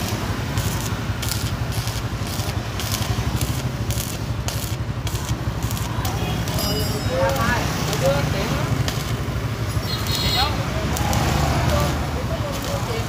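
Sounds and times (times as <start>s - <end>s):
sharp welding pops: 0.0s - 13.0s
welding arc crackling: 0.0s - 13.0s.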